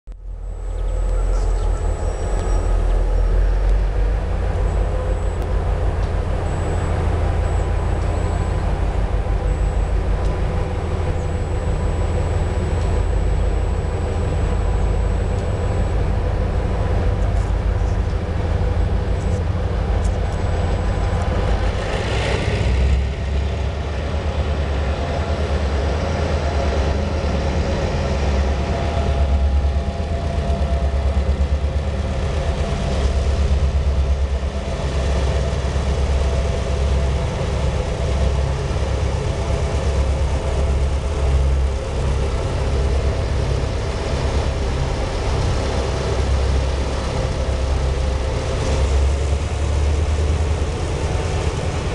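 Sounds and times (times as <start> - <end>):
locomotive engine throbbing: 0.1 - 51.9.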